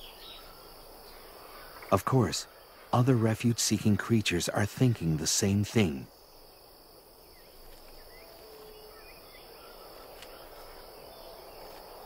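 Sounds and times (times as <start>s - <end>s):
high insect chirring: 0.0s - 12.0s.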